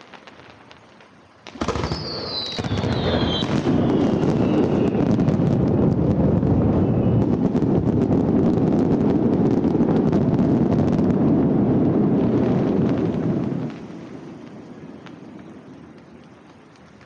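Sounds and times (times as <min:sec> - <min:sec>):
distant fireworks rumble: 0:00.0 - 0:17.0
fireworks crackling: 0:00.0 - 0:17.0.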